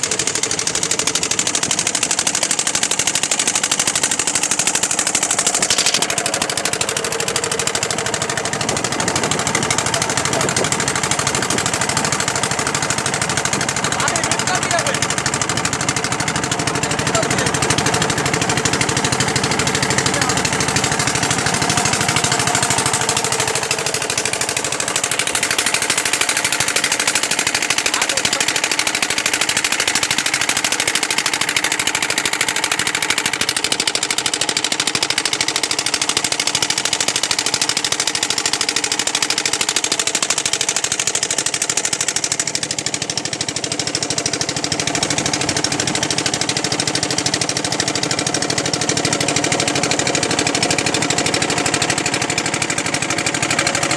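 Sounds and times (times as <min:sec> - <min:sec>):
boat engine pulsing: 0:00.0 - 0:53.9.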